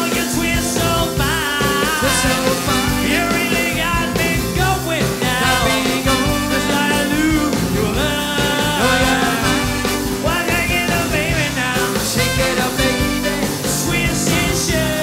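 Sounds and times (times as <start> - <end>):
swing band playing: 0.0 - 15.0.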